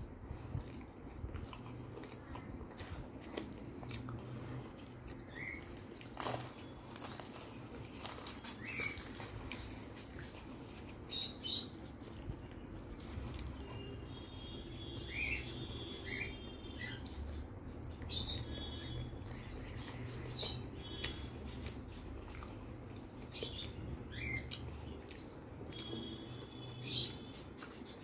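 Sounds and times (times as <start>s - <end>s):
soft chewing: 0.0s - 15.4s, 16.0s - 28.0s.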